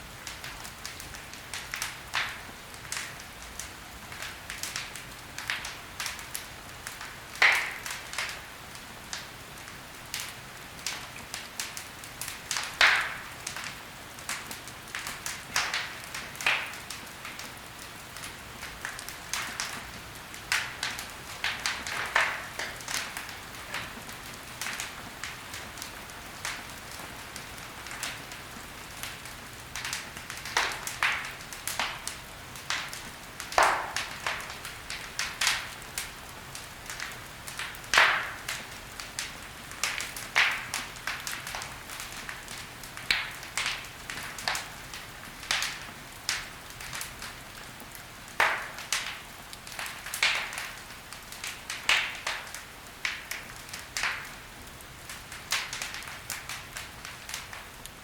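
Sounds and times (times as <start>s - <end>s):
soft steady hiss: 0.0s - 58.0s
logs crackling in fireplace: 0.1s - 58.0s.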